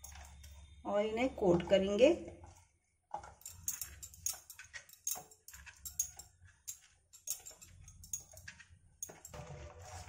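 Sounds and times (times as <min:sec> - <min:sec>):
wet squishing of batter: 0:00.0 - 0:10.0.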